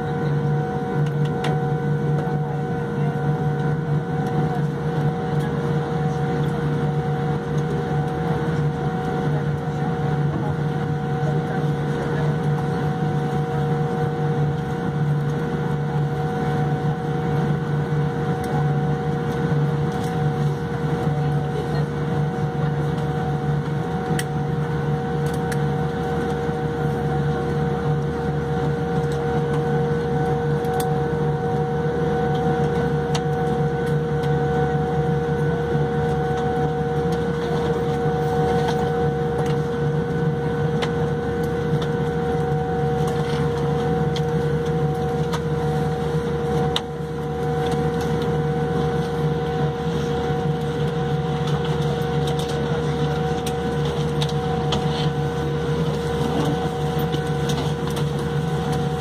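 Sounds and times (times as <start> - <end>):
airliner cabin low hum: 0.0 - 59.0.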